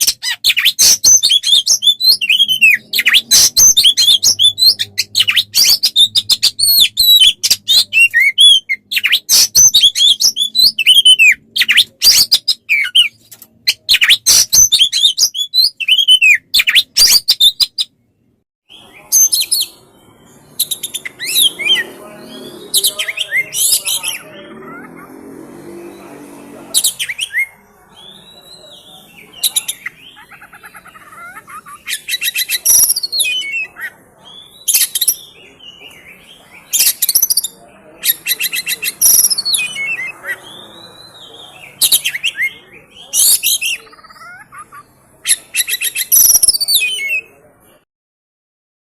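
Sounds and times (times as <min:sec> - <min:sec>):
songbird singing: 0:00.0 - 0:47.8.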